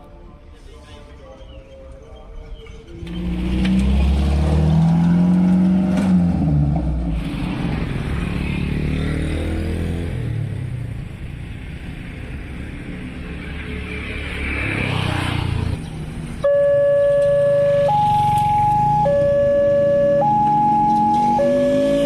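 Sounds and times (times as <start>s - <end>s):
heavy vehicle engine accelerating: 3.0s - 22.0s.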